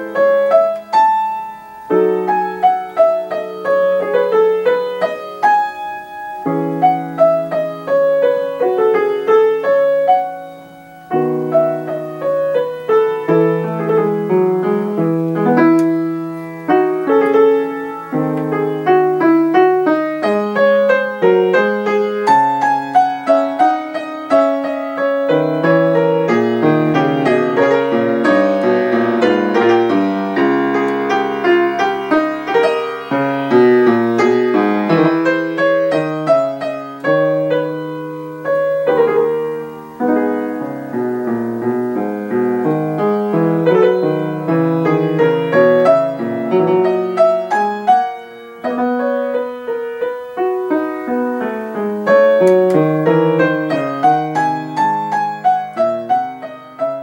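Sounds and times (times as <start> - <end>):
grand piano playing: 0.0 - 57.0.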